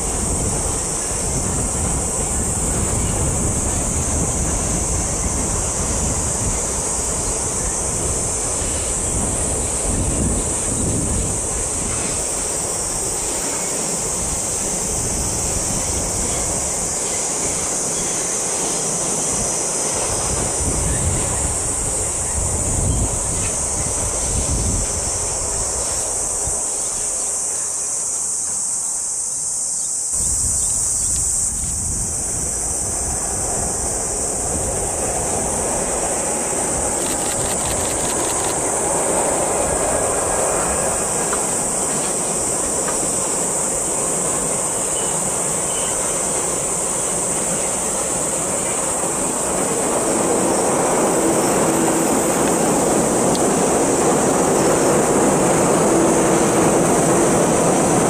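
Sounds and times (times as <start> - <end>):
express train approaching: 0.0 - 58.0
freight train wheels on rail: 0.0 - 58.0
insects buzzing: 0.0 - 58.0.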